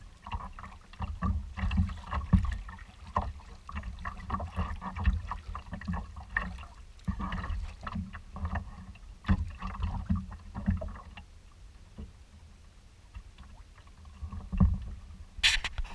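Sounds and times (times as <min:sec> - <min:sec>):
water splashing against kayak: 0:00.0 - 0:15.9.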